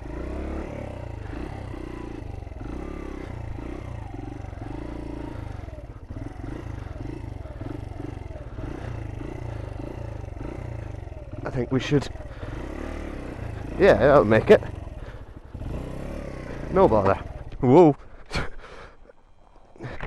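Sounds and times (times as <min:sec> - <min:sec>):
moped engine revving: 0:00.0 - 0:20.0.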